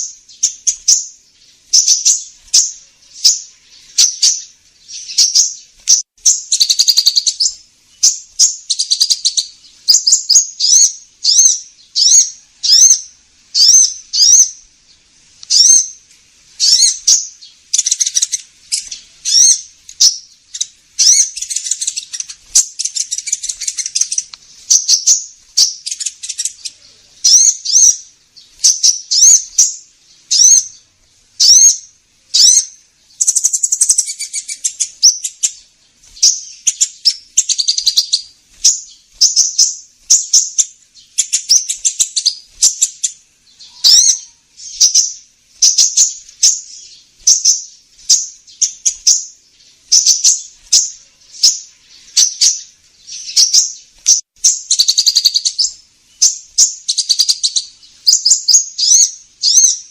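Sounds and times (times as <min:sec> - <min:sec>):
buzzy chattering bird trills: 0:00.0 - 0:16.0, 0:16.6 - 0:59.9
sunbird chirping: 0:00.0 - 0:59.9.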